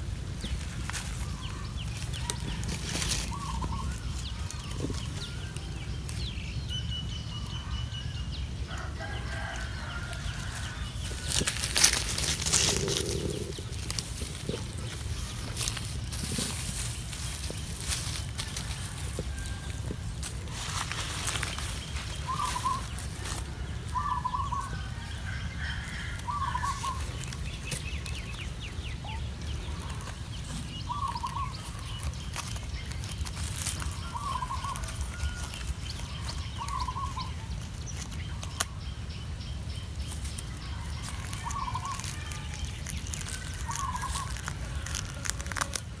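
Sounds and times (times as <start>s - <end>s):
soft crackles: 0.0s - 7.5s, 8.8s - 38.9s, 40.0s - 46.0s
steady low rumble: 0.0s - 45.2s.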